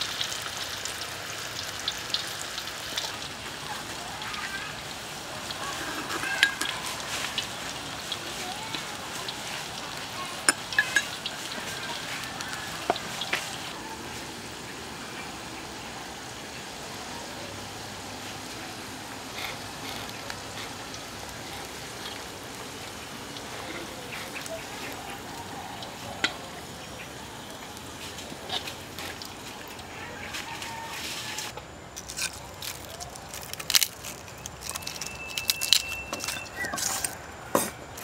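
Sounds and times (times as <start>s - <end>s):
hot oil sizzling and bubbling: 0.0s - 38.0s.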